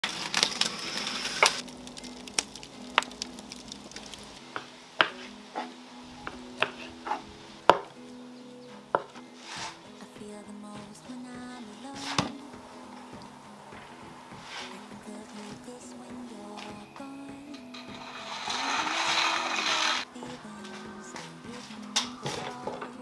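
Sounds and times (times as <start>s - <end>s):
soft background music: 1.6s - 23.0s.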